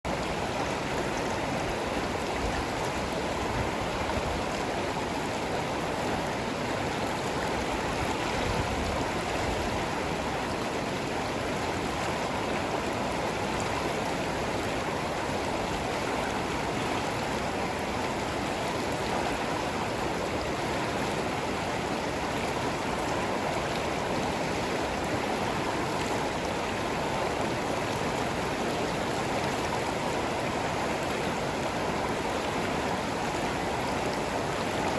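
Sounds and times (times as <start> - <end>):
stream water running: 0.1 - 34.9.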